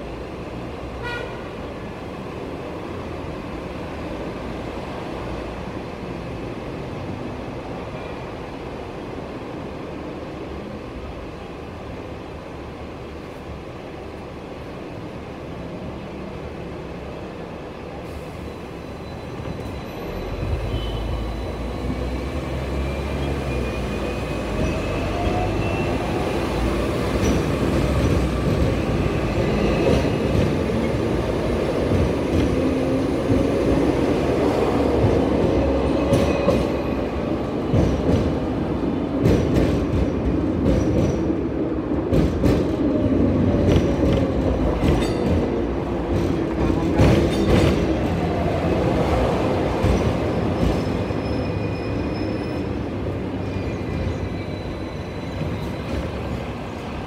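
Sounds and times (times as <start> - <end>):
steel wheels rumbling on rails: 10.6 - 57.0.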